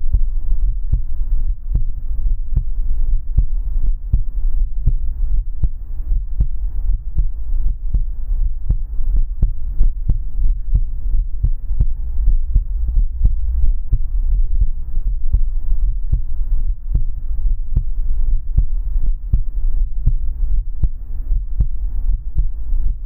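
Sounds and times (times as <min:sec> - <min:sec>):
faint hum: 0:00.0 - 0:23.0
heartbeat thumps: 0:00.0 - 0:23.0
low rumble: 0:00.0 - 0:23.0.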